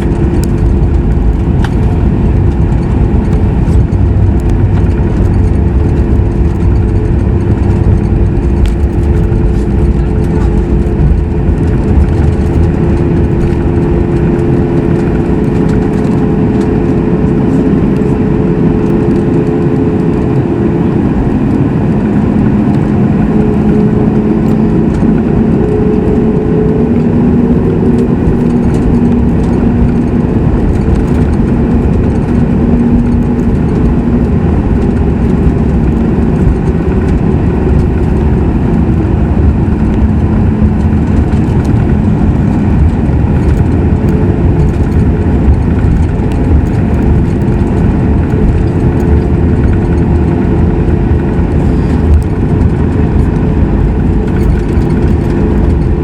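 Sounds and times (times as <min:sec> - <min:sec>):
jet engines idling drone: 0:00.0 - 0:56.0.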